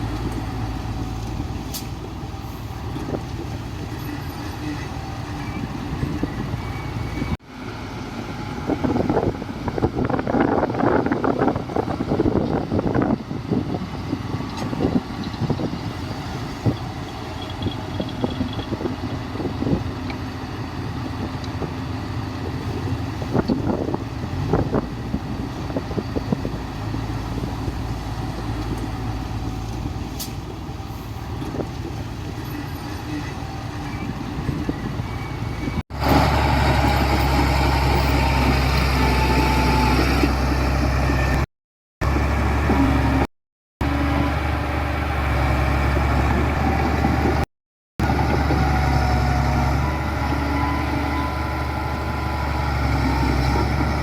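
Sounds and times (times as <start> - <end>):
diesel machinery engine rumble: 0.0 - 54.0.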